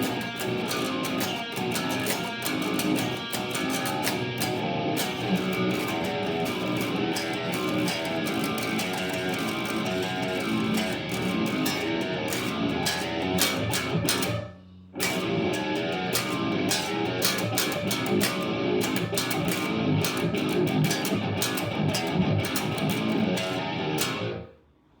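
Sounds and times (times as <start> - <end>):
electric guitar playing metal riffs: 0.0 - 24.6.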